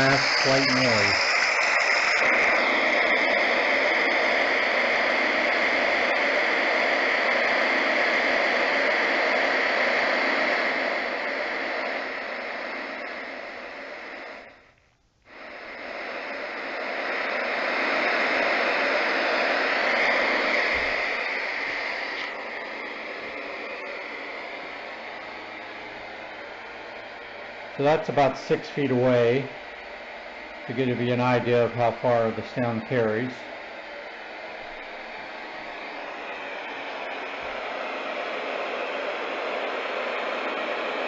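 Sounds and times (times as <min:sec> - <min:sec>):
white noise hiss: 0:00.0 - 0:41.0.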